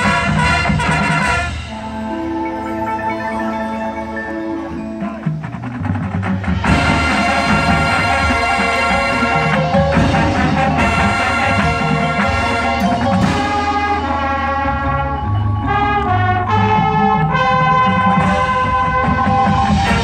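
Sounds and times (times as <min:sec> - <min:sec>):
marching band brass chords: 0:00.0 - 0:20.0.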